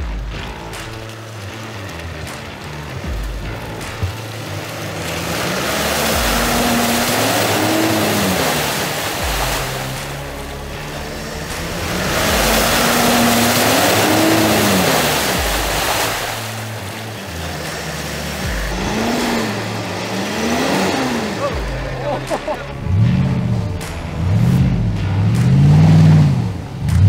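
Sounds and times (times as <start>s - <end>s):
tyres spinning in mud: 0.0s - 24.3s
diesel engine revving: 0.0s - 27.0s
water splashing: 0.0s - 27.0s.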